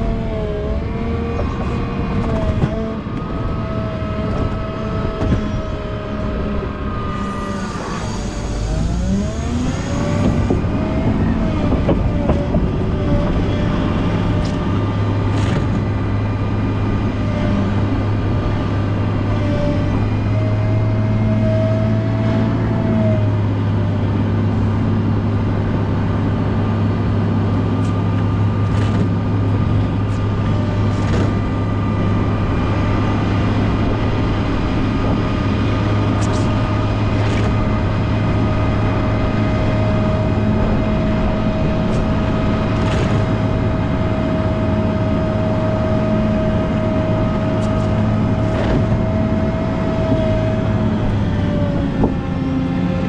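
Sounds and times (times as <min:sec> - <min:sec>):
wheel loader engine running: 0:00.0 - 0:53.0.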